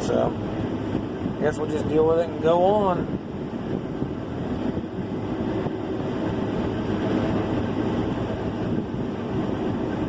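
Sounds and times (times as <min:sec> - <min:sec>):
combine harvester drone: 0:00.0 - 0:10.0.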